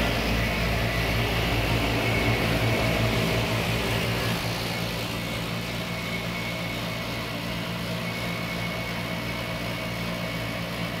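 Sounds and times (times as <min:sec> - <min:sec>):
air conditioner unit humming: 0:00.0 - 0:11.0
thin high whine: 0:00.0 - 0:11.0.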